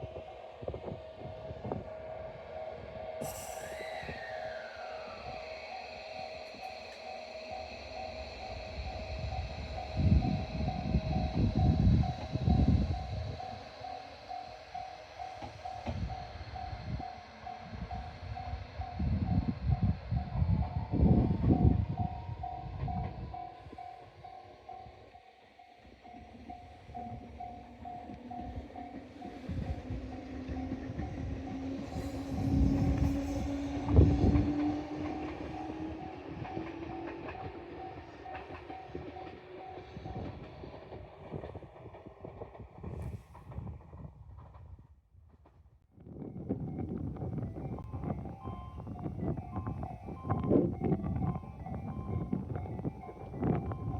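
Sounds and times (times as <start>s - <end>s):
train rumbling: 0.0s - 53.9s.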